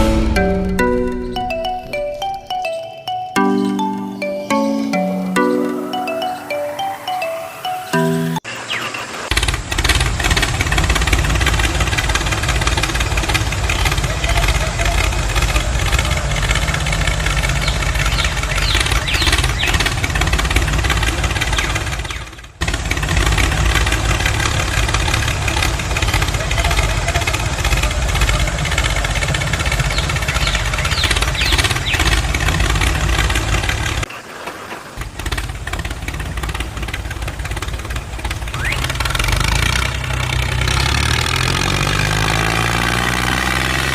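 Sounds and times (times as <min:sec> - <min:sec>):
engine running: 0:03.4 - 0:43.9.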